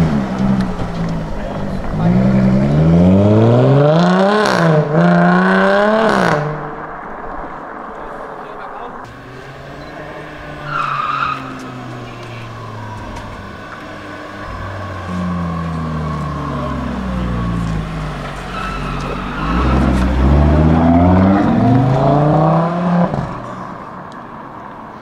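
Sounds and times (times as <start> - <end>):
car engine revving and accelerating: 0.0 - 24.1.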